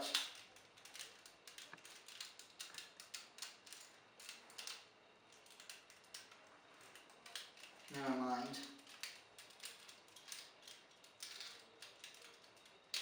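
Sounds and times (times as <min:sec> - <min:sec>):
plastic toy parts clicking: 0:00.0 - 0:08.0, 0:08.6 - 0:13.0.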